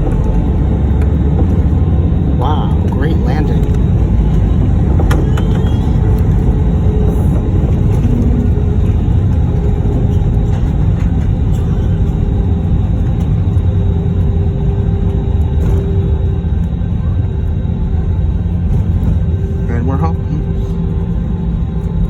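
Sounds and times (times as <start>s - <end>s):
low rumble of aircraft engines: 0.0s - 22.0s.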